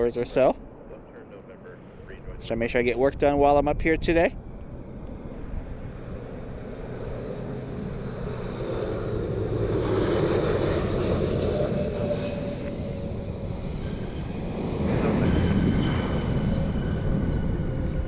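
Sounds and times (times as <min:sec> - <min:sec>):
faint whine: 0:00.0 - 0:18.0
jet plane passing: 0:00.0 - 0:18.0
wind on microphone: 0:02.1 - 0:18.0.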